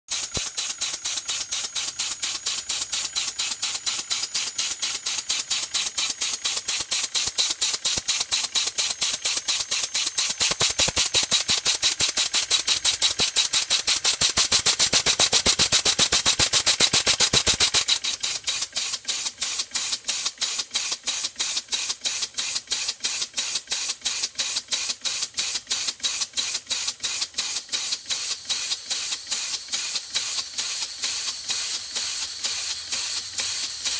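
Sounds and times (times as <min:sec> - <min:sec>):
air engine hissing exhaust puffs: 0:00.1 - 0:33.9.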